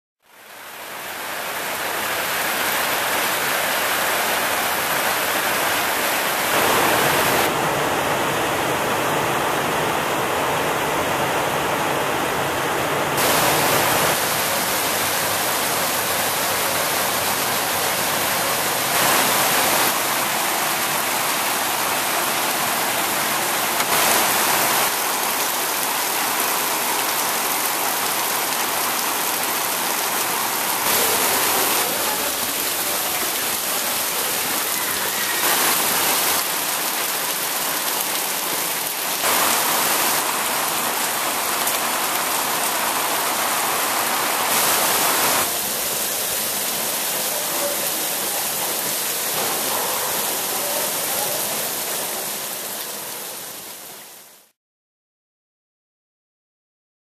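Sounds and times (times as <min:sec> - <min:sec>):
heavy rain on leaves and concrete: 0:00.2 - 0:54.6.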